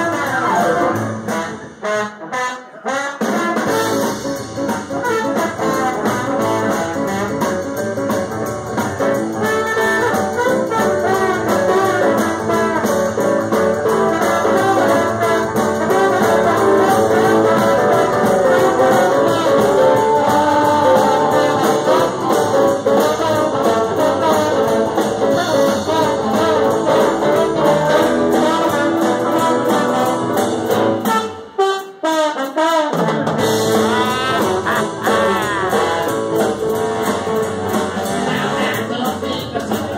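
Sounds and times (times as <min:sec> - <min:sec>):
live band playing: 0:00.0 - 0:39.9
trombone lead: 0:00.0 - 0:39.9.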